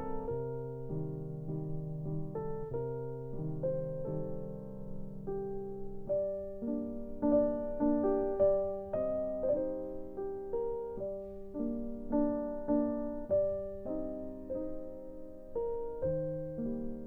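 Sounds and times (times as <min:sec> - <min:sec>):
slow calm piano music: 0:00.0 - 0:17.0.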